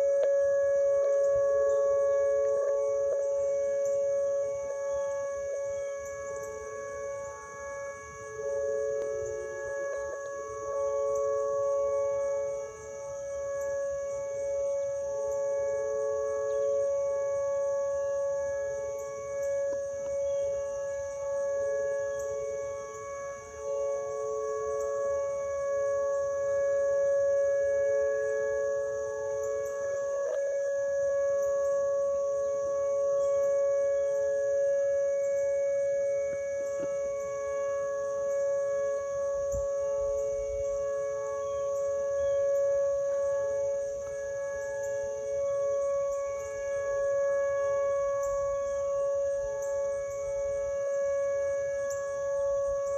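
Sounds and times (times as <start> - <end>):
distant tornado sirens wailing: 0.0 - 52.9.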